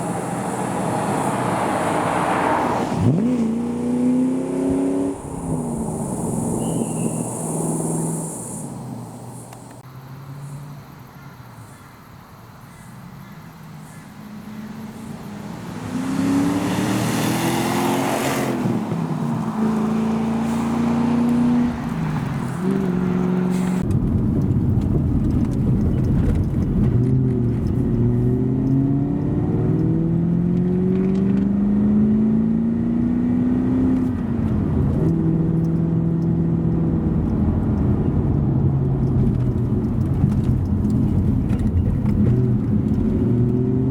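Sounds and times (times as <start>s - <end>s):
car engine accelerating: 0.0s - 11.0s, 13.7s - 43.9s.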